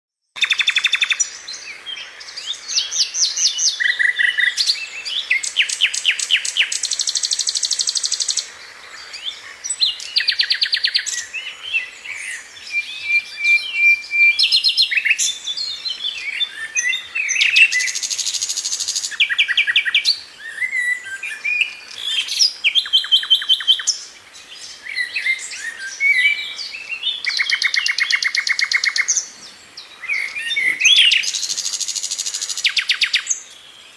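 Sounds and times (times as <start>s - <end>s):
birds singing and chirping: 0.4s - 33.9s.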